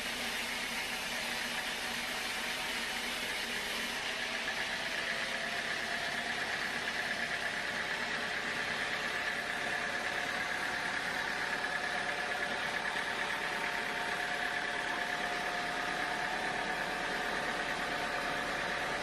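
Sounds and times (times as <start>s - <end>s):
high steady whine: 0.0s - 19.0s
sawmill machinery running: 0.0s - 19.0s.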